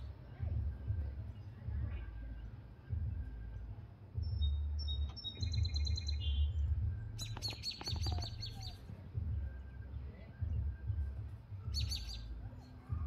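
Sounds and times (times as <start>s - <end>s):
low rumbling noise: 0.0s - 13.0s
small birds chirping: 0.0s - 13.0s.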